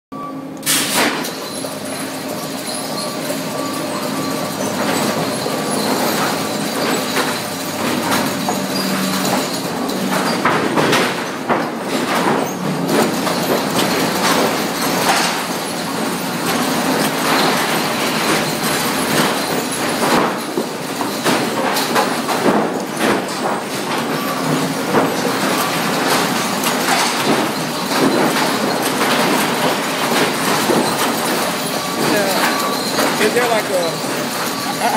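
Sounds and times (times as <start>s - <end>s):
sawmill machinery running: 0.4s - 34.9s
irregular knocks and clatter: 1.0s - 34.9s.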